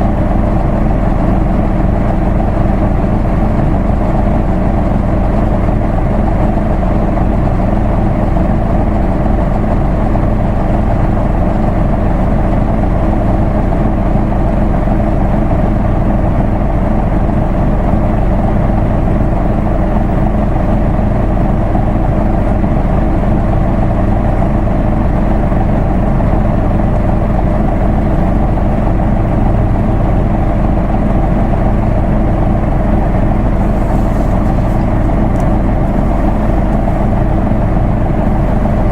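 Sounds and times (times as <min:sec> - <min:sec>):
diesel bus engine droning: 0:00.0 - 0:38.9.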